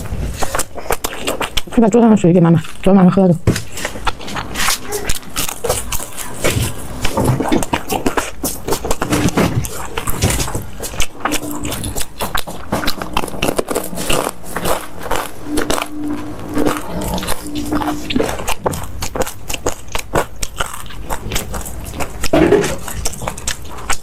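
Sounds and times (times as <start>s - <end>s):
person biting and chewing: 0.0s - 1.8s, 3.6s - 24.0s.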